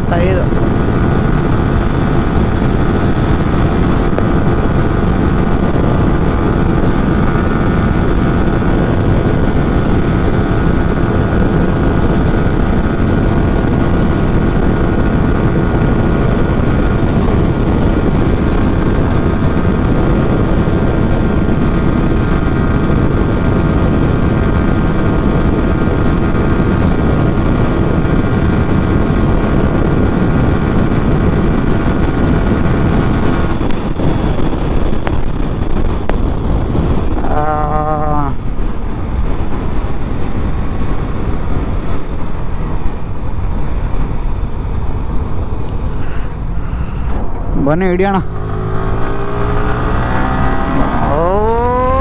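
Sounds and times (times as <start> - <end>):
motorcycle engine at high revs: 0.0 - 52.0
wind rush on microphone: 0.0 - 52.0.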